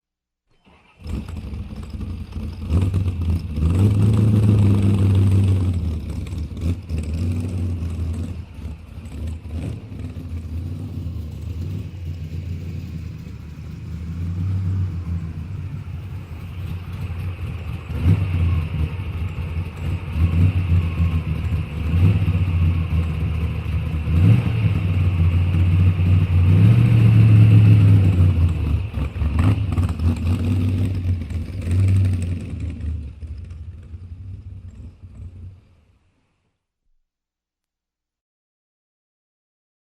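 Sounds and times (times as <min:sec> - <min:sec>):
car engine revving: 0:00.6 - 0:35.8.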